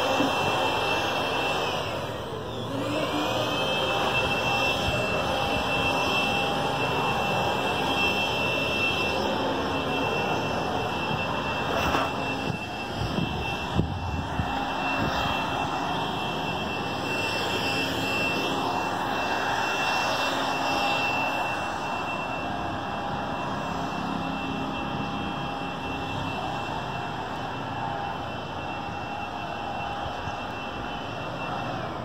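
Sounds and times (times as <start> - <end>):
faint high whine: 0.0 - 32.0
steady rushing drone: 0.0 - 32.0.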